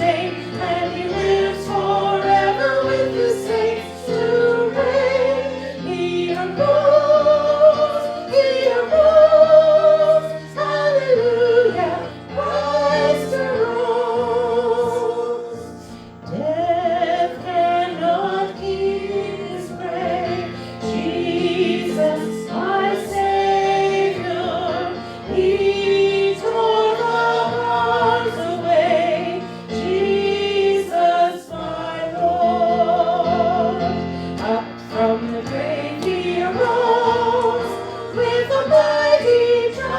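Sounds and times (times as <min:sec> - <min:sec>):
held accompaniment chords: 0:00.0 - 0:39.9.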